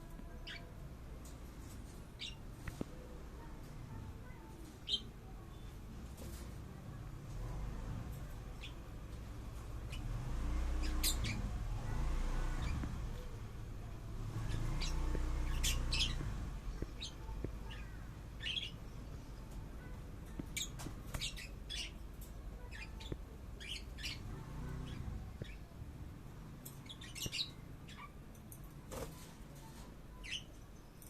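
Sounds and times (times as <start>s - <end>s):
birds chirping and squawking: 0.2s - 0.8s, 1.6s - 2.6s, 4.0s - 6.5s, 8.2s - 25.8s, 26.4s - 31.0s.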